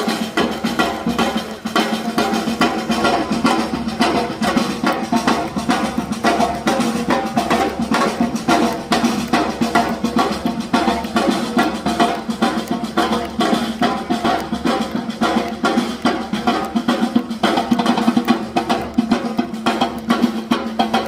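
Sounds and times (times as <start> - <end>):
drum-led music with fast beat: 0.0 - 21.0.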